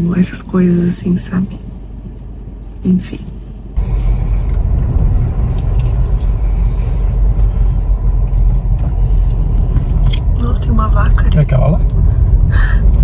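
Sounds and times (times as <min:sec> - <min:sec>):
engine and road noise in car: 0:00.0 - 0:13.0.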